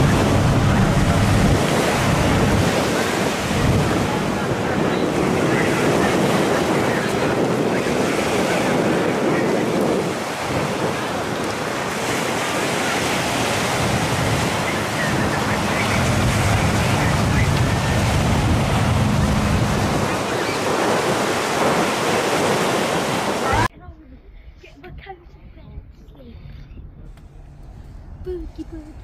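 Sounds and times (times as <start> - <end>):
boat engine humming: 0.0 - 23.7
waves washing: 0.0 - 23.7
wind buffeting microphone: 0.0 - 24.0.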